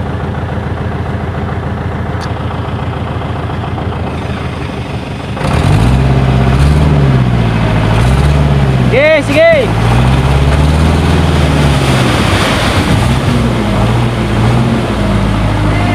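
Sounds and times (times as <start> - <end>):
truck engine idling and revving: 0.0 - 15.9.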